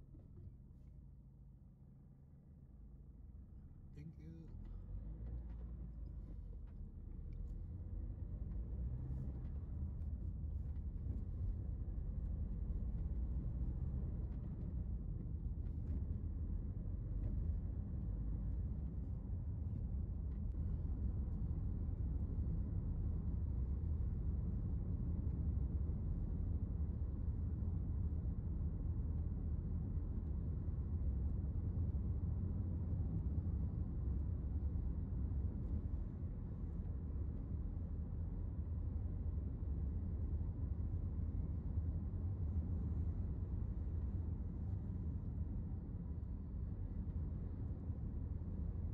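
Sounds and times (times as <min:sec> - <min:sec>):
car engine and tyre rumble: 0:00.0 - 0:48.9.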